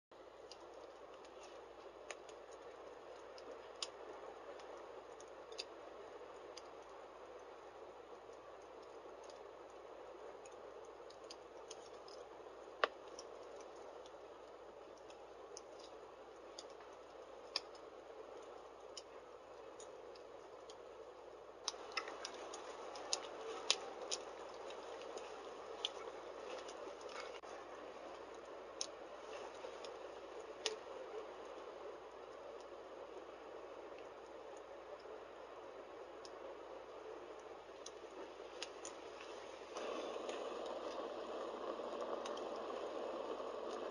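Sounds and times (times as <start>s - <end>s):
fire crackles and pops: 0.1s - 43.9s
rustle of flame: 0.1s - 43.9s.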